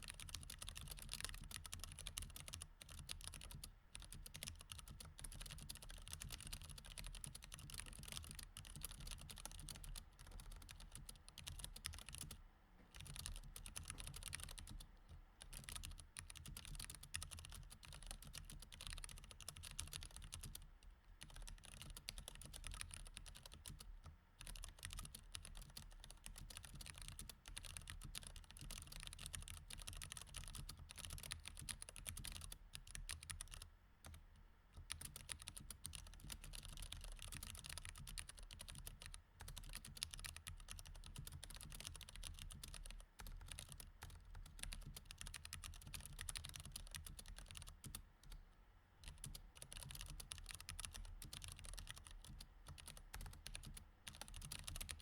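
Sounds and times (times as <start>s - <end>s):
mechanical keyboard typing: 0.0s - 14.8s, 15.4s - 34.2s, 34.8s - 48.4s, 49.0s - 55.0s.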